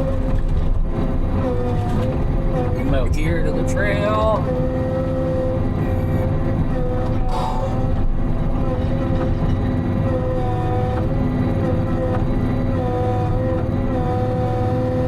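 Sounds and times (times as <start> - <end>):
engine drone with whine: 0.0 - 15.0.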